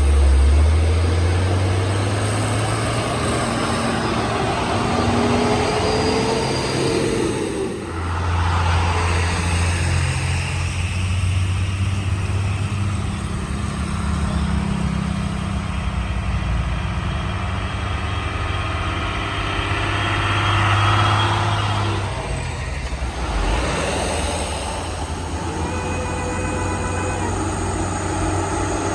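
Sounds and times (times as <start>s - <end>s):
heavy truck engine droning: 0.0s - 28.9s
road traffic: 0.0s - 28.9s.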